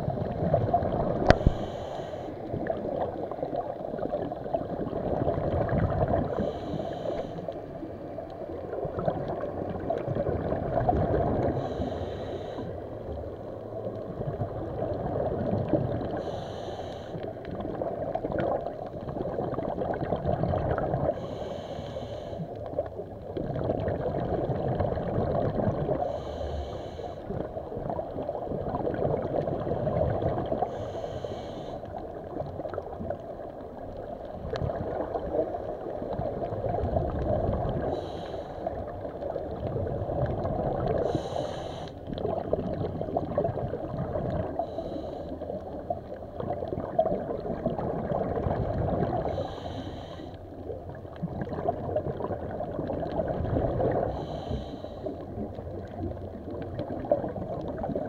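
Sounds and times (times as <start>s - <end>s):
water sloshing and gurgling: 0.0s - 58.0s.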